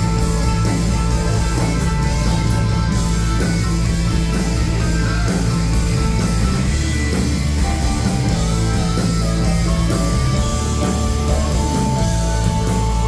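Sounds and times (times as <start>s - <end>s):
electric guitars sustained notes: 0.0s - 13.0s
rock band playing live: 0.0s - 13.0s.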